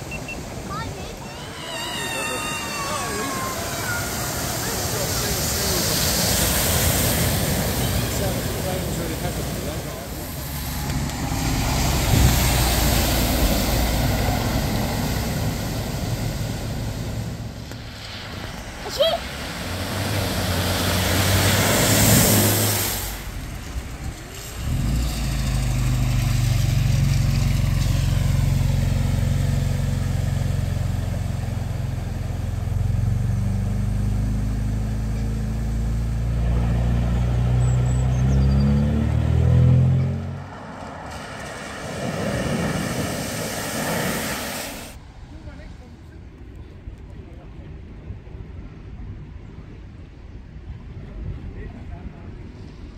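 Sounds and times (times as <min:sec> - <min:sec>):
car splashing into water: 0:00.0 - 0:38.8, 0:40.3 - 0:45.0
water spray from car: 0:00.0 - 0:39.2, 0:40.5 - 0:45.8.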